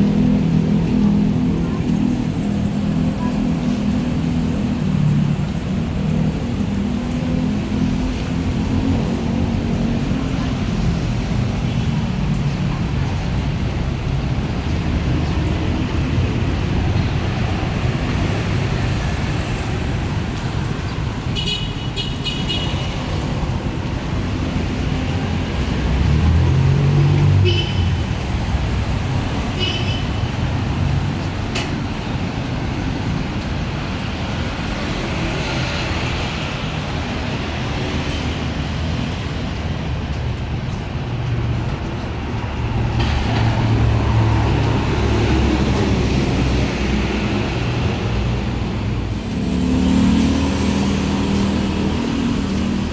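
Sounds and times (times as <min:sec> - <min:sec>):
passing cars and buses: 0:00.0 - 0:52.9.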